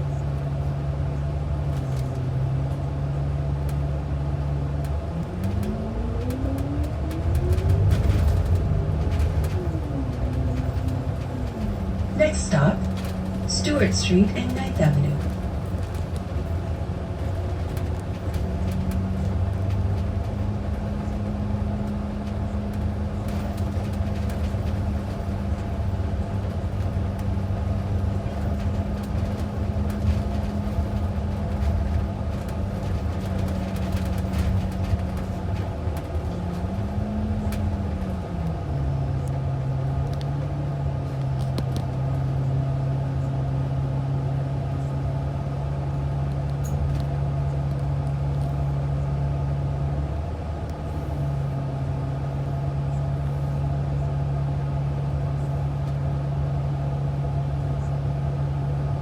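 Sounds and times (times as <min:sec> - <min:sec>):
bus engine running: 0:00.0 - 0:59.0
interior rattles and clicks: 0:00.1 - 0:43.8, 0:44.5 - 0:51.6.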